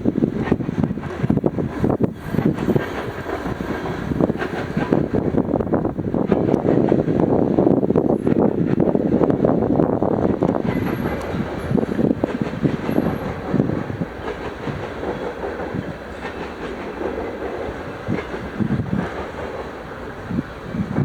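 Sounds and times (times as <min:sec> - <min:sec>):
railroad cars rumbling: 0:00.0 - 0:21.0
railroad wheels clacking: 0:00.0 - 0:21.0.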